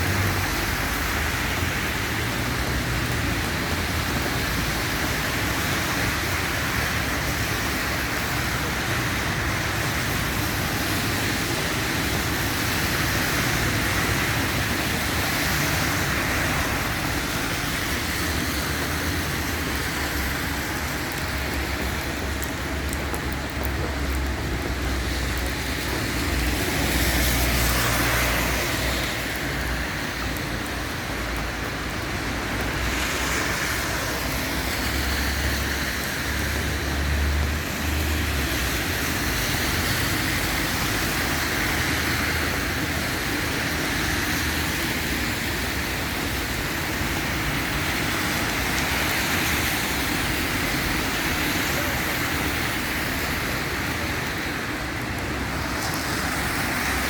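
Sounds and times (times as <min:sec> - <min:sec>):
tyres hissing on wet road: 0:00.0 - 0:57.0.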